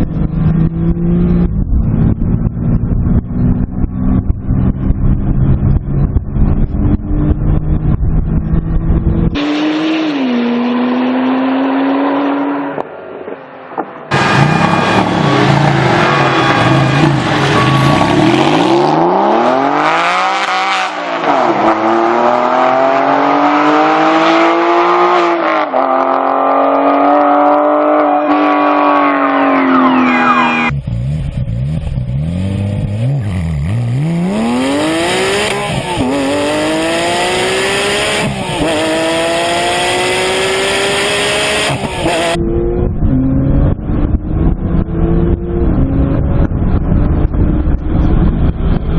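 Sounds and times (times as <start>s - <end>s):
car engine accelerating through gears: 0.0s - 48.9s.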